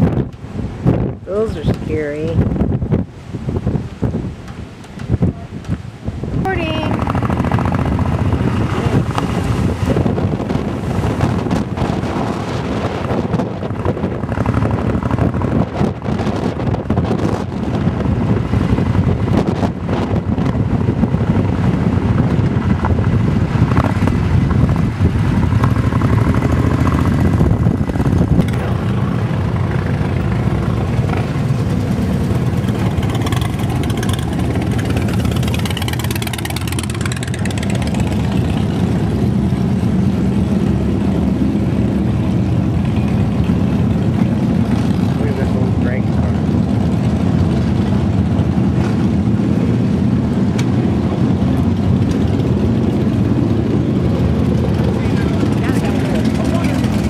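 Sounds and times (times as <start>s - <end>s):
motorcycle engines rumbling: 0.0s - 57.0s.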